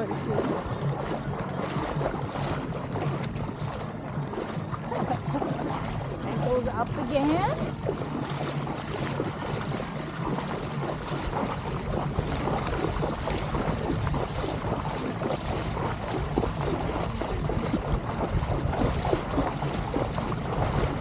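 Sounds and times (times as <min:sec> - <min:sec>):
wading through water: 0:00.0 - 0:21.0.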